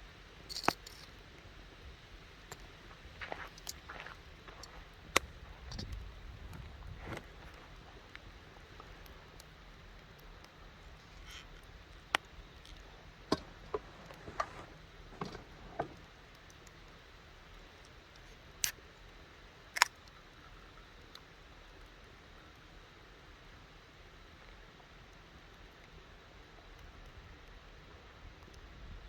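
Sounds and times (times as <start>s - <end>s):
campfire crackling: 0.0s - 28.7s.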